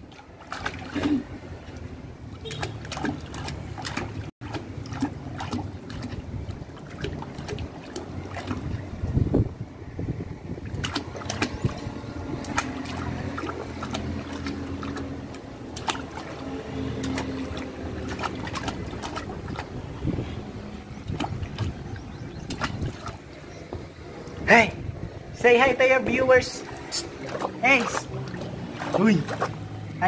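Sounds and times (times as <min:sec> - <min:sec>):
baby splashing water: 0:00.0 - 0:09.2, 0:10.6 - 0:24.1, 0:26.5 - 0:30.0.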